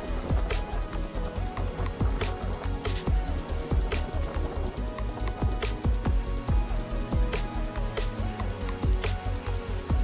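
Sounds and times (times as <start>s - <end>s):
background music with a beat: 0.0s - 10.0s.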